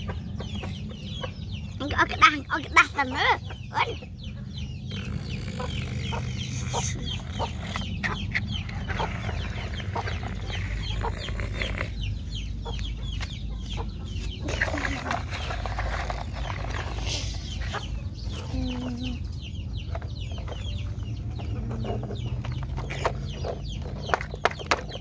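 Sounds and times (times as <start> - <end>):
chickens clucking: 0.0 - 25.0
chirping calls: 0.0 - 25.0.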